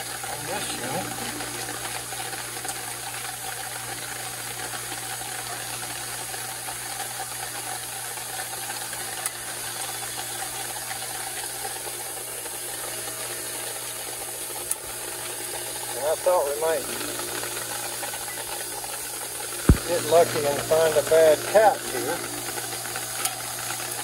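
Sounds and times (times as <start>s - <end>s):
air conditioner unit humming: 0.0s - 24.0s.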